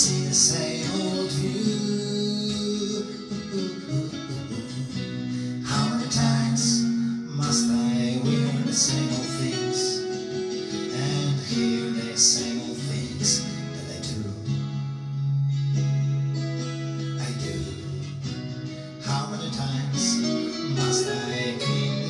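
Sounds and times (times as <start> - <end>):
acoustic guitar strummed slowly: 0.0 - 22.0.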